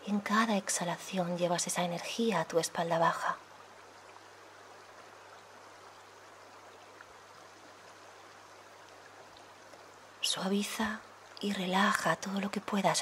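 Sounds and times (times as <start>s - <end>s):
stream flowing over stones: 0.0s - 13.0s.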